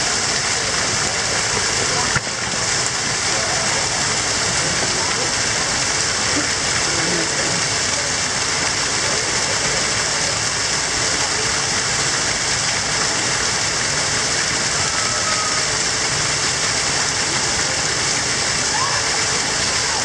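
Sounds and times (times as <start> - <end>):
waterfall splashing onto rocks: 0.0 - 20.0.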